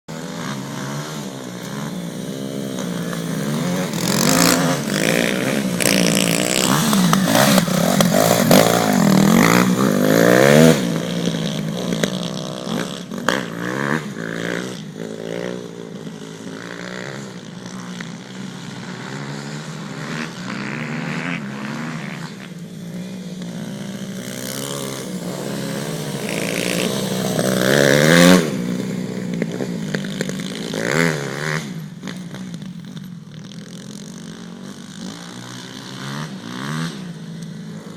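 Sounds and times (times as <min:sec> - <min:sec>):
motorcycle engine revving: 0:00.1 - 0:37.9.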